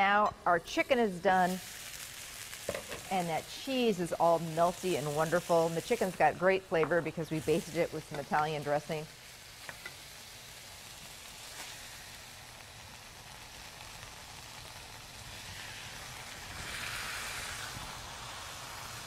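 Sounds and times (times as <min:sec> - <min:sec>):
chicken sizzling in pan: 0:00.6 - 0:19.0.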